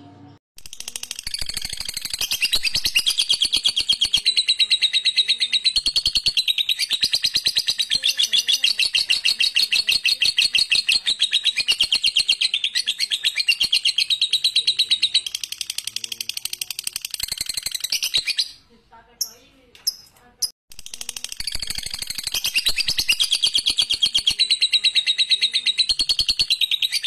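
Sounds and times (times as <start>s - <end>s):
lovebird chattering: 0.6s - 27.0s.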